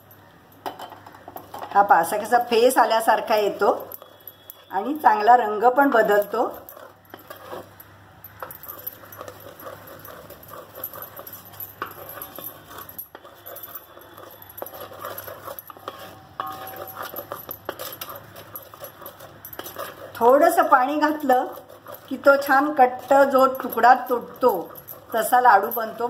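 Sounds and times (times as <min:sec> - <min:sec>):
wooden spatula scraping metal pot: 0:00.8 - 0:26.0.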